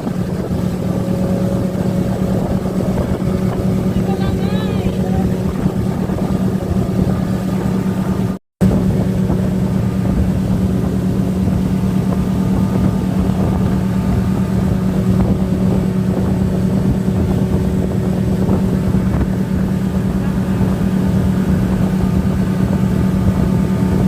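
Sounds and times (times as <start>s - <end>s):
boat motor droning: 0.0s - 24.0s
wind on microphone: 0.0s - 24.0s.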